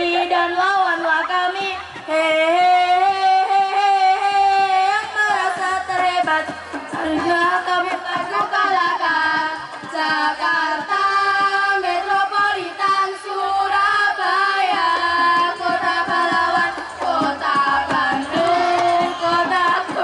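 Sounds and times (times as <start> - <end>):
young voices singing: 0.0 - 20.0.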